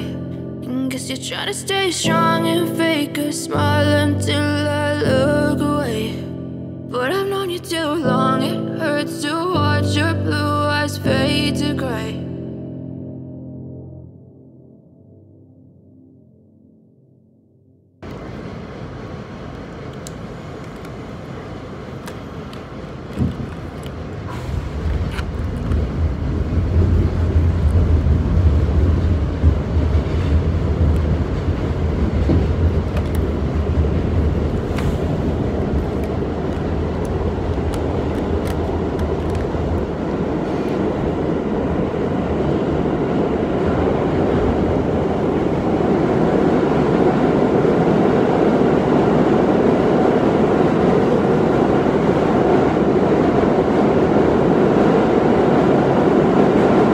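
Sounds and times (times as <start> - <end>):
subway train rumbling: 0.0 - 12.2, 18.0 - 56.9.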